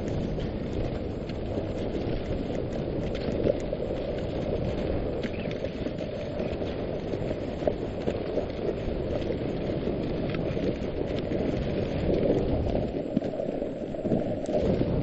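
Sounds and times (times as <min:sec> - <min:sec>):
sled runners sliding on snow: 0:00.0 - 0:15.0
wind on microphone: 0:00.0 - 0:15.0.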